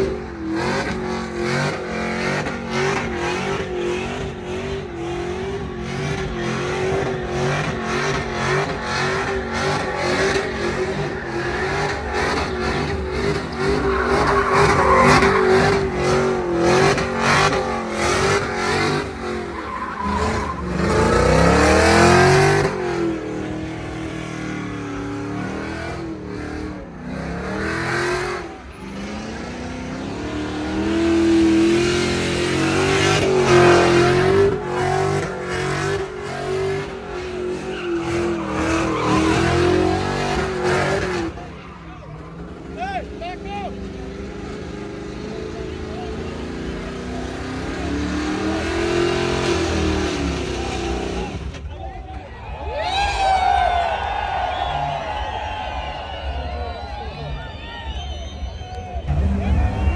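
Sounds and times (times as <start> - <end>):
spinning tires squealing: 0.0 - 51.7, 52.6 - 59.9
truck engine at high revs: 0.0 - 51.7, 54.0 - 59.9.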